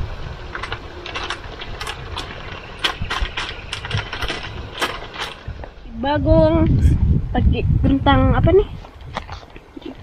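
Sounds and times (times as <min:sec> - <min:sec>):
low rumble: 0:00.0 - 0:09.3.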